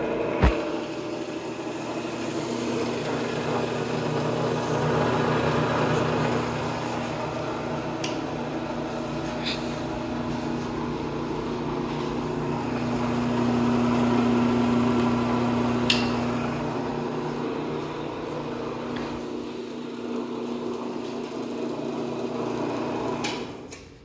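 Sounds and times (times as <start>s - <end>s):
electric motor and gear hum: 0.0s - 24.0s.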